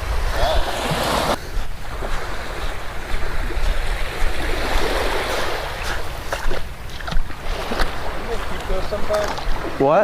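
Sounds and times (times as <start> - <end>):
surf washing onto beach: 0.0 - 10.0
wind rumbling on microphone: 0.0 - 10.0.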